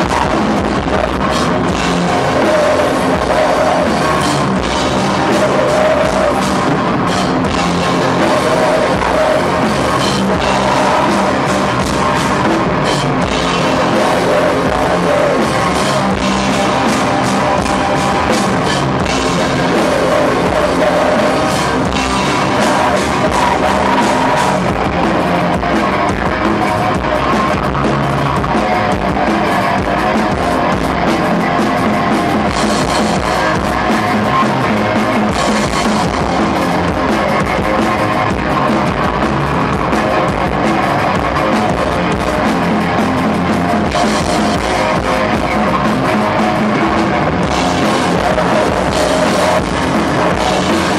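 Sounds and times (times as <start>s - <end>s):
metal band playing: 0.0s - 50.9s.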